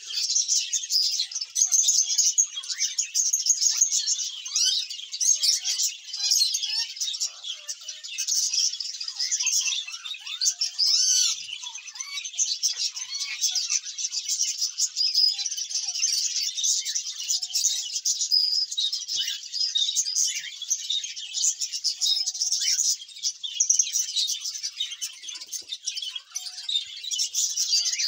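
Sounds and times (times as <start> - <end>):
parrots chirping and chattering: 0.0 - 28.0.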